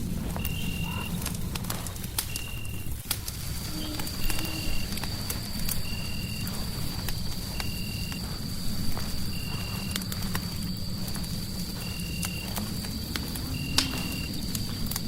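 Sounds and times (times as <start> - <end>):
fireplace crackling: 0.0 - 15.0
low rumble: 0.0 - 15.0.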